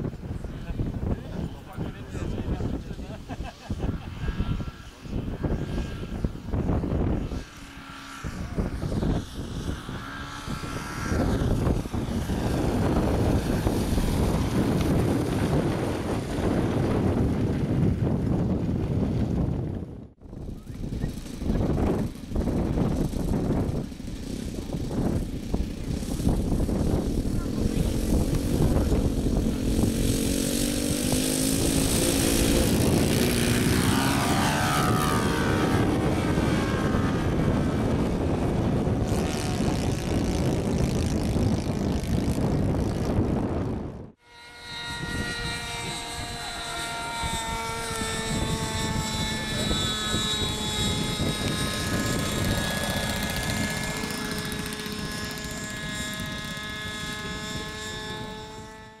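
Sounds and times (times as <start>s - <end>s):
model airplane engine and propeller: 0.0s - 59.0s.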